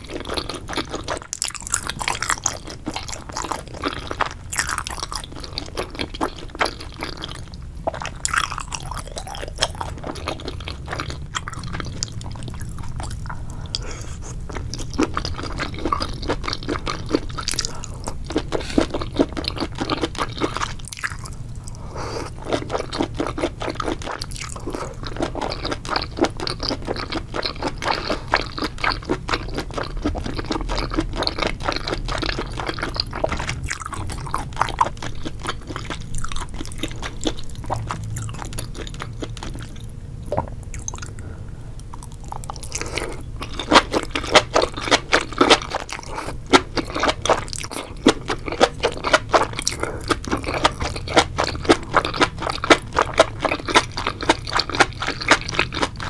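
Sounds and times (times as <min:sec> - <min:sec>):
wet chewing sounds: 0:00.0 - 0:56.0.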